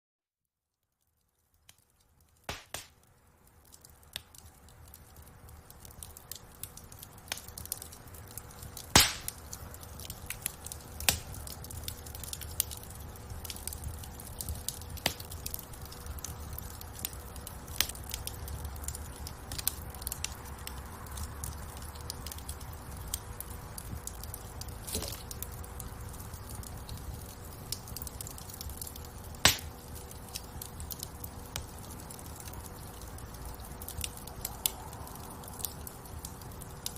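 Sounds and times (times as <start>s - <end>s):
wood fire crackling and popping: 0.7s - 36.9s
low rumble of flames: 1.0s - 36.9s.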